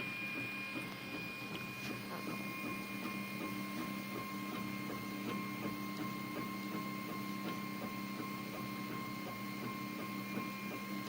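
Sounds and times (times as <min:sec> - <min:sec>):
printer motors whining: 0:00.0 - 0:11.0.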